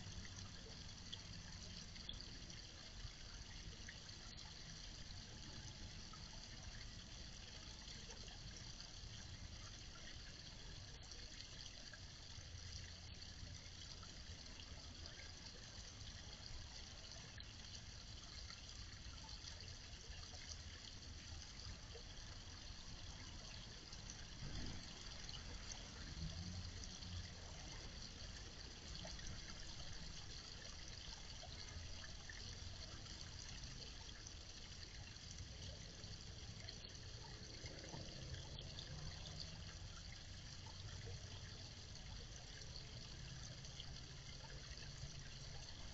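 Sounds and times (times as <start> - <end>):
water trickling over rocks: 0.0 - 45.9.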